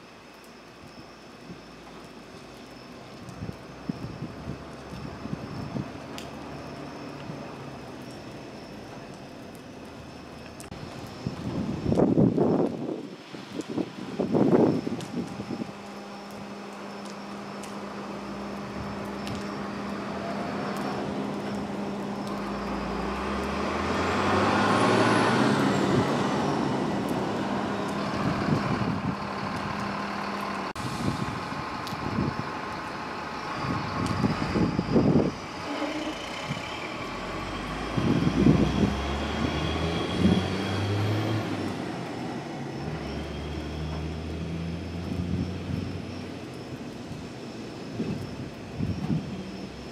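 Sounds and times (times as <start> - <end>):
vehicles passing: 3.1 - 49.9.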